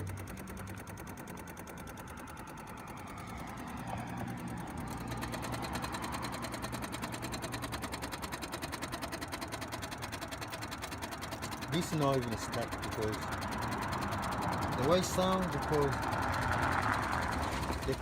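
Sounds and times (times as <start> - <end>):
rapid clicking from engine bay: 0.0 - 18.0.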